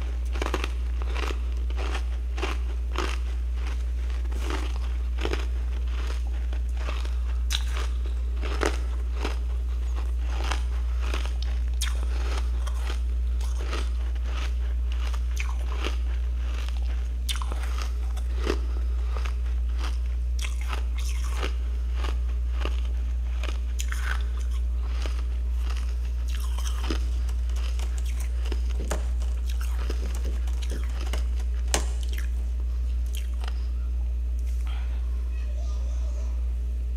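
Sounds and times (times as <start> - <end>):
frost crunching when chewed: 0.0 - 35.0
steady low hum: 0.0 - 36.9.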